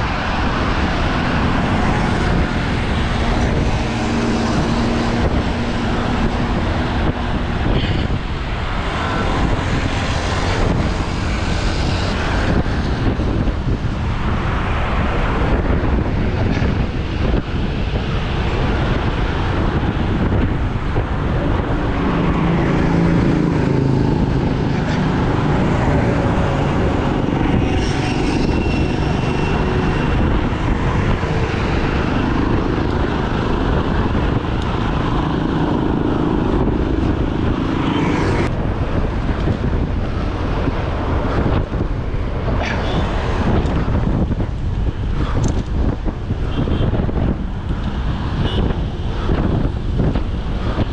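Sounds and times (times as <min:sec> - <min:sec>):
highway traffic noise: 0:00.0 - 0:50.9
vehicle engine hum: 0:00.0 - 0:50.9
wind rumble on microphone: 0:00.0 - 0:50.9.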